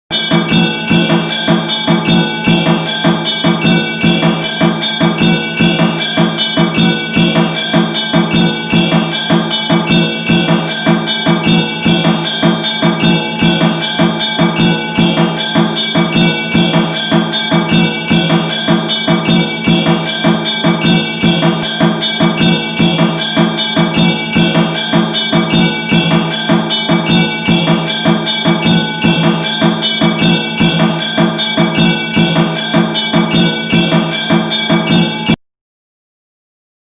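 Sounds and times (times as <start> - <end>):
temple bell rung rapidly: 0.1 - 35.4.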